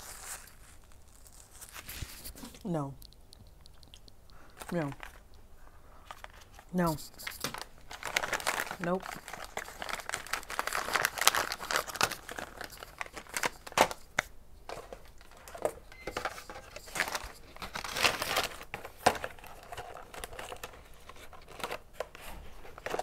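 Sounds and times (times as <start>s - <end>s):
plastic bag crinkling: 0.0s - 2.9s, 3.5s - 5.3s, 6.0s - 23.0s.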